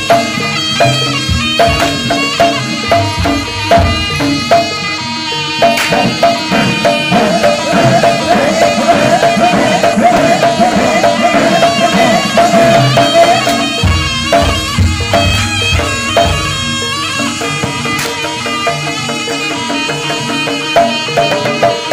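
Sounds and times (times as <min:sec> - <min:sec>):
drums and percussion: 0:00.0 - 0:21.9
high wavering melody: 0:00.0 - 0:21.9.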